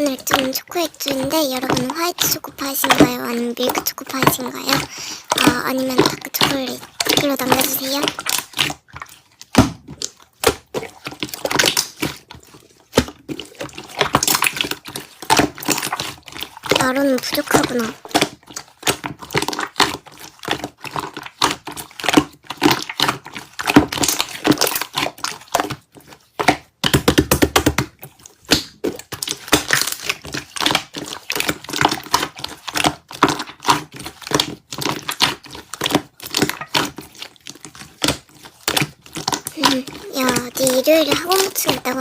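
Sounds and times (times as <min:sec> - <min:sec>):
slime squished by hand: 0:00.0 - 0:42.0.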